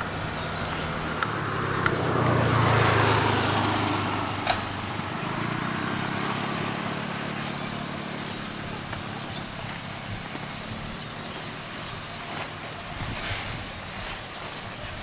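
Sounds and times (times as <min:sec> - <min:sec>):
road vehicle passing: 0:00.0 - 0:15.0.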